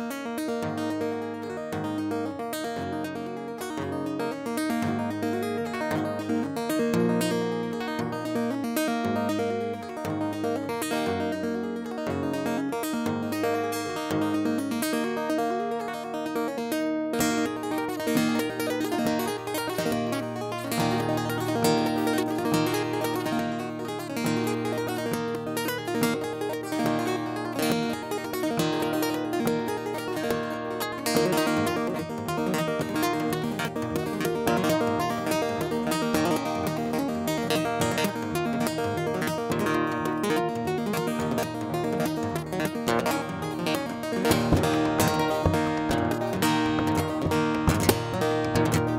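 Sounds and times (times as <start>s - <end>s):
solo acoustic guitar: 0.0s - 48.9s.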